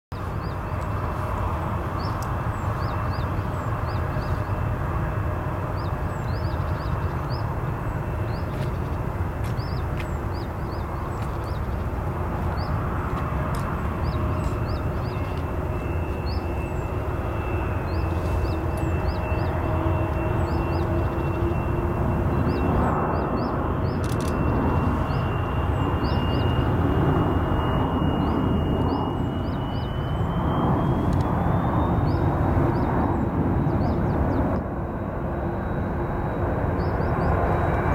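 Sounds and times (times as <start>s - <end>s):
faint engine whine: 0.1s - 37.9s
jet engines low rumble: 0.1s - 37.9s.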